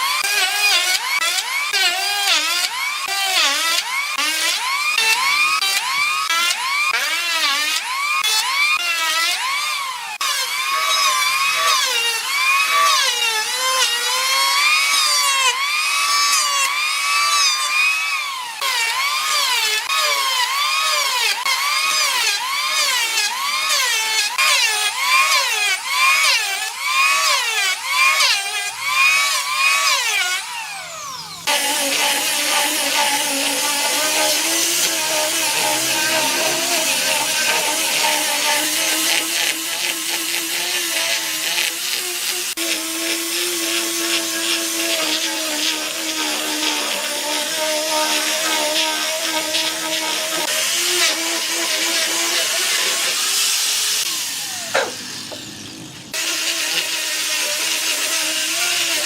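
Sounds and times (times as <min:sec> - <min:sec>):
electric power tool working wood: 0:00.0 - 0:59.0.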